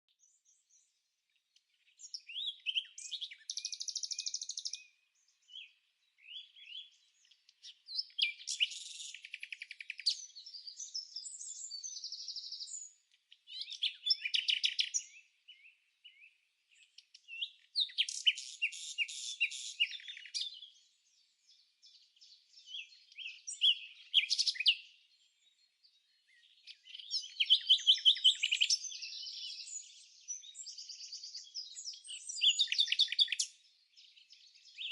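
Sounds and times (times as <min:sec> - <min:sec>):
songbird trilling and chirping: 0:00.1 - 0:34.9.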